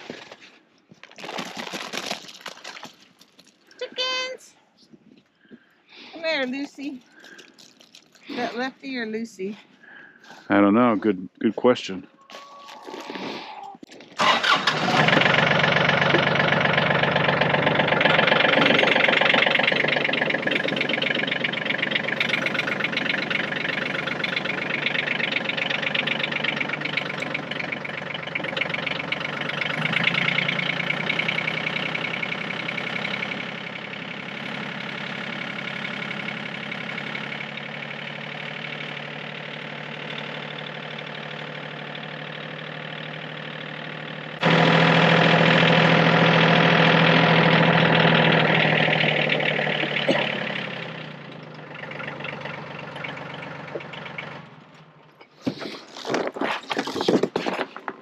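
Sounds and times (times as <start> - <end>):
diesel tractor engine: 3.0 - 57.0.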